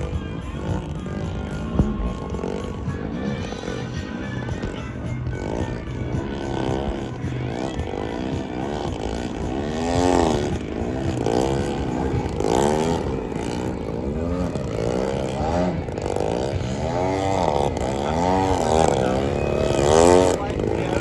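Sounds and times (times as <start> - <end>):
model plane engine revving: 0.0 - 21.0.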